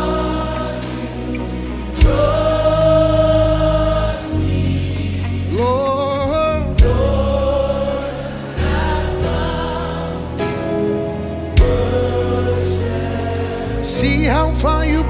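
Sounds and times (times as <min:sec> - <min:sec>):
keyboard bass and drums: 0:00.0 - 0:05.9, 0:06.5 - 0:14.6
gospel choir singing: 0:00.0 - 0:15.0.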